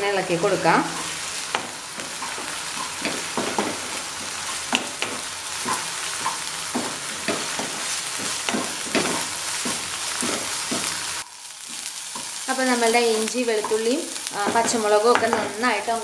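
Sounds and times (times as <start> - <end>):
food sizzling in hot oil: 0.0 - 16.0
spatula scraping a pan: 0.8 - 15.8.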